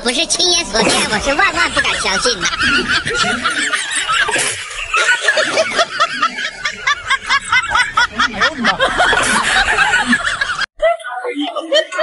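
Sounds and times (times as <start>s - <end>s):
high-pitched snickering laughter: 0.8s - 10.7s.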